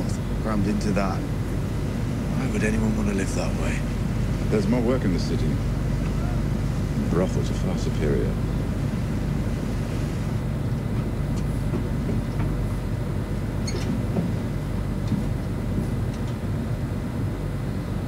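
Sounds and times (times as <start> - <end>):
low rumbling drone: 0.0 - 18.0.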